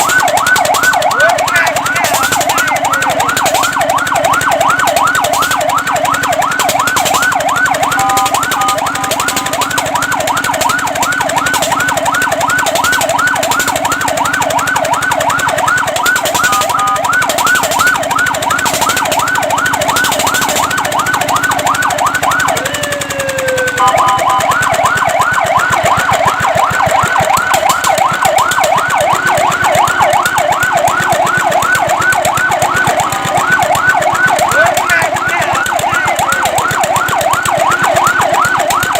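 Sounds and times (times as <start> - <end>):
fire truck siren yelping: 0.0 - 38.9.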